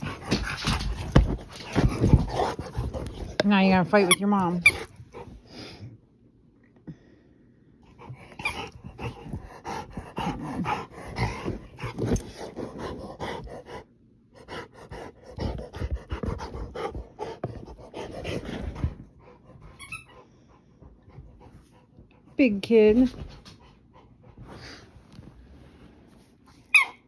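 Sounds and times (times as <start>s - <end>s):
dog panting: 0.0s - 5.5s, 7.9s - 24.9s.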